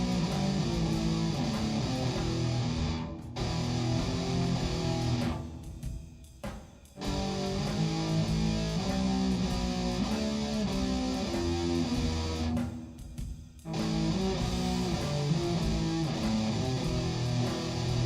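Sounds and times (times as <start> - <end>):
steady bass line: 0.0 - 6.1, 7.0 - 12.7, 13.6 - 18.0
guitar-led music: 0.0 - 6.2, 7.0 - 18.0.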